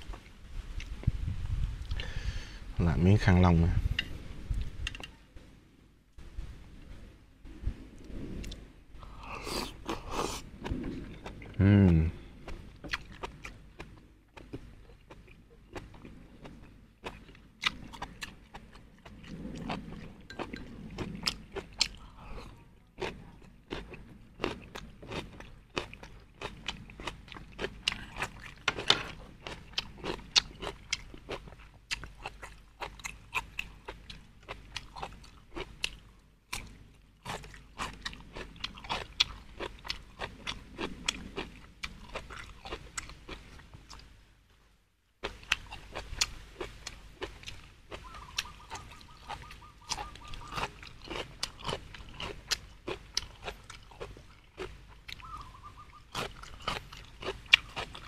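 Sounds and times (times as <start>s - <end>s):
person chewing crunchy food: 8.4s - 44.1s, 45.2s - 58.0s.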